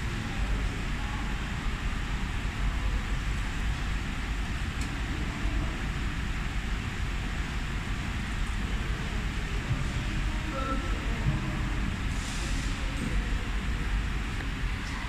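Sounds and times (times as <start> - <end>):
low rumble with hiss: 0.0 - 15.0.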